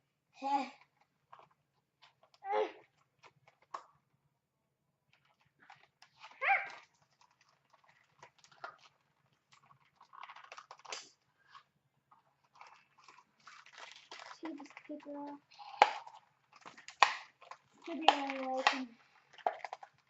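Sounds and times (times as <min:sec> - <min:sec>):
toy packaging clicks and rustles: 0:00.7 - 0:04.0, 0:05.1 - 0:20.0.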